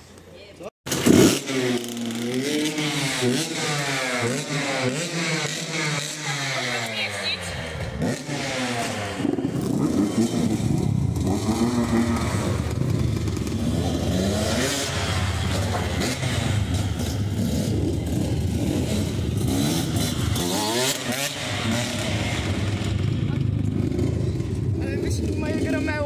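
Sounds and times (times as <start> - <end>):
dirt bike engines revving: 0.9 - 26.0
motorbike accelerating past: 0.9 - 26.0.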